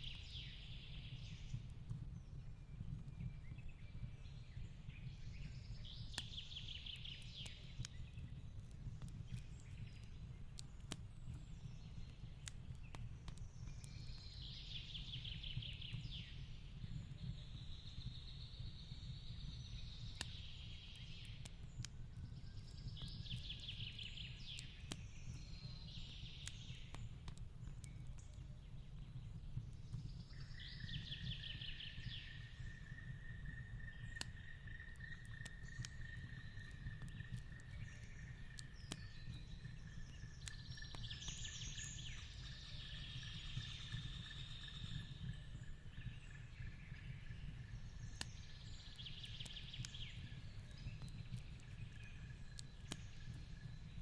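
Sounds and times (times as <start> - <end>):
fire crackling and popping: 0.1 - 54.0.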